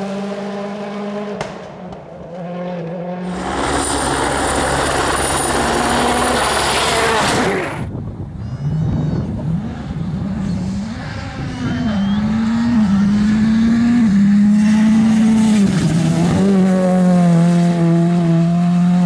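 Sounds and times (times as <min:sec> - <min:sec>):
car engine revving: 0:00.0 - 0:07.9, 0:08.8 - 0:19.0
car passing at full speed: 0:00.0 - 0:08.2, 0:08.9 - 0:19.0
high engine whine: 0:03.1 - 0:19.0.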